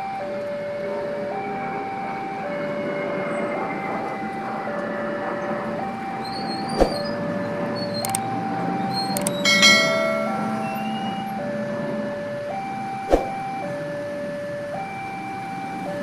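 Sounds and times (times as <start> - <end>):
two-tone level-crossing alarm: 0.0 - 16.0.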